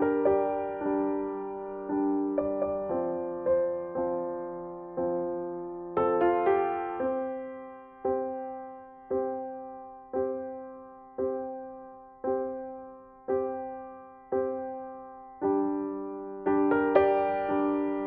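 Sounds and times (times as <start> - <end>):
soft keyboard chords: 0.0 - 18.0.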